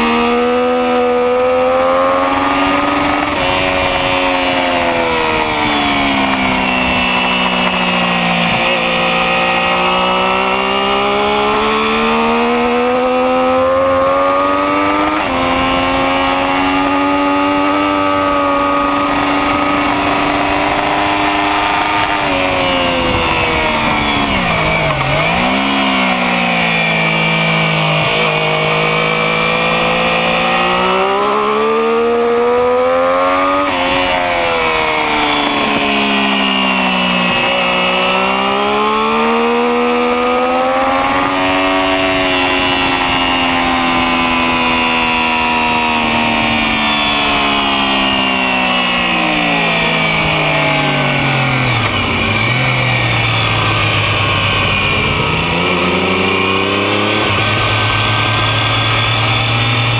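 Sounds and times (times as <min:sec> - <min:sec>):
motorcycle engine revving: 0:00.0 - 0:59.9
rushing wind noise: 0:00.0 - 0:59.9.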